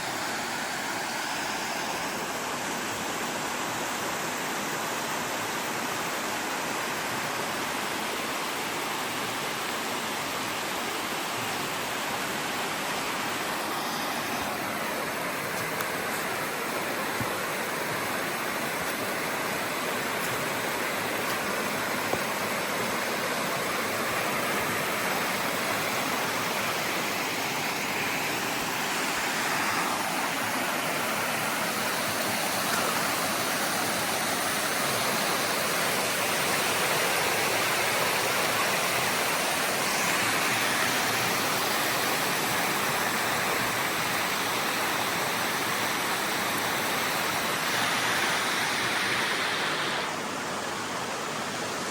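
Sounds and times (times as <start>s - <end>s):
creek waterfall rushing: 0.0s - 51.9s.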